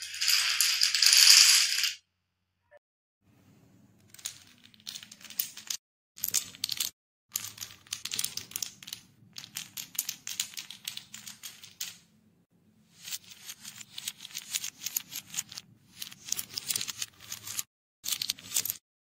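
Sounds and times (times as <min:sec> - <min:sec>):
wooden dominoes clattering: 0:00.0 - 0:02.0, 0:04.1 - 0:12.0, 0:13.0 - 0:18.8.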